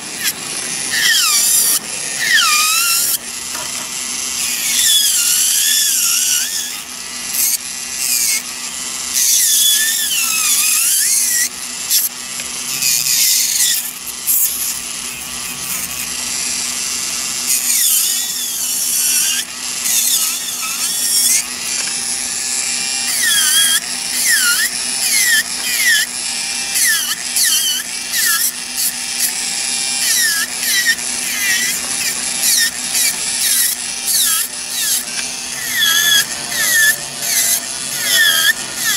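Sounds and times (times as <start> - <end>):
electric nail drill grinding: 0.0 - 38.9.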